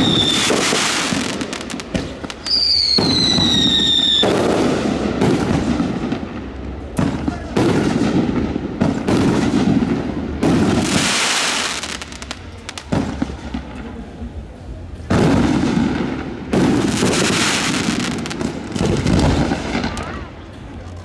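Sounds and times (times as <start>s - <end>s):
fireworks bangs: 0.0s - 21.0s
fireworks crackle and rumble: 0.0s - 21.0s.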